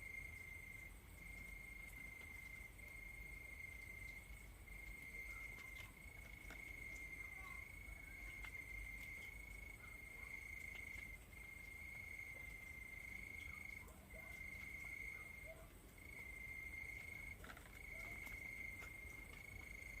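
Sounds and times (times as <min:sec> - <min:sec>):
cricket trilling: 0:00.0 - 0:20.0
faint ticks and chirps: 0:00.0 - 0:20.0.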